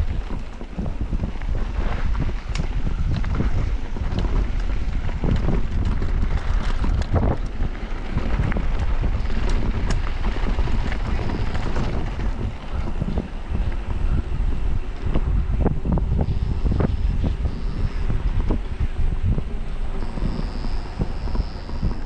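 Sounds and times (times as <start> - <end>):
bike clicks and clatters: 0.0 - 22.0
tyres rumbling on dirt trail: 0.0 - 22.0
wind buffeting microphone: 0.0 - 22.0.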